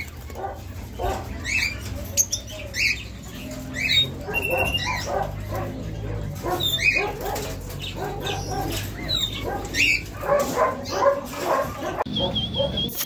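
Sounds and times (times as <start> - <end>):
birds chirping: 0.0 - 13.0
dogs yipping and whimpering: 0.0 - 13.0.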